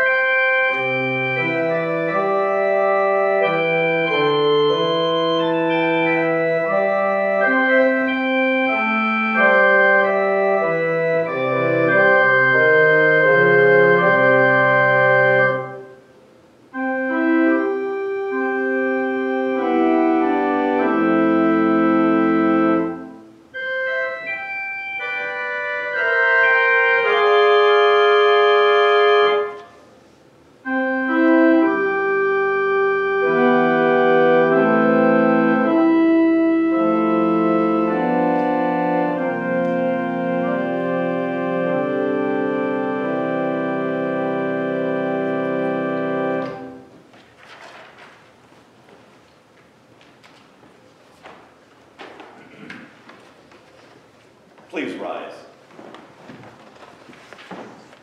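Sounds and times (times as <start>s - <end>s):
organ playing held chords: 0.0s - 47.1s.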